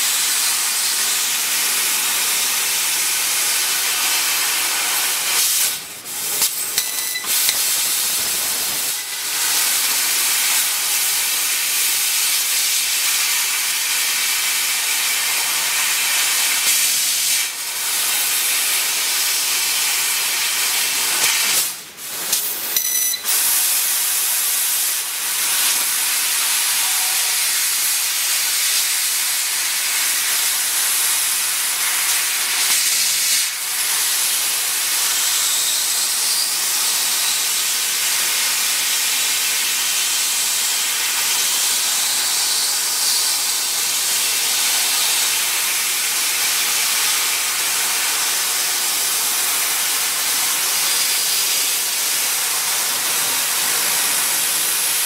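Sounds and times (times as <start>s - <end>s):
laser cutter gas hissing: 0.0s - 55.0s.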